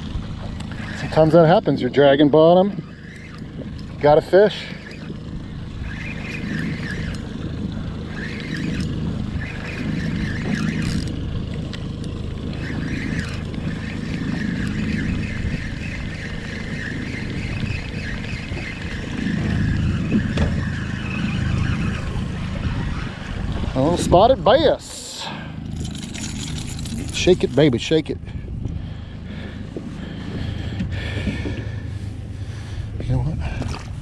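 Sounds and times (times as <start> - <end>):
outboard motor droning: 0.0 - 34.0.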